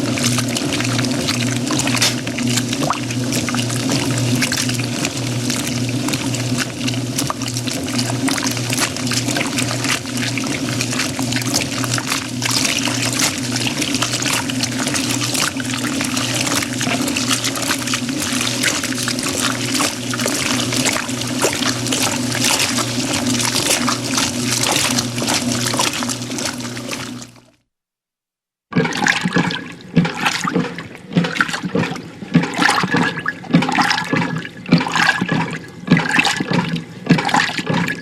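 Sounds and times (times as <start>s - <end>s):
washing machine motor hum: 0.0s - 27.6s, 28.8s - 38.0s
water sloshing in tub: 0.0s - 27.6s, 28.7s - 38.0s.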